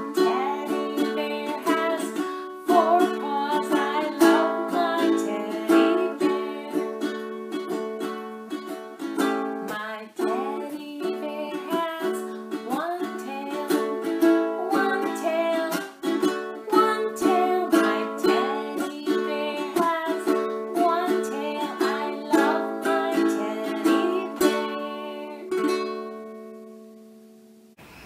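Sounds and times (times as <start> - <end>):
woman singing: 0.0 - 8.2, 9.6 - 25.8
ukulele strumming: 0.0 - 27.4.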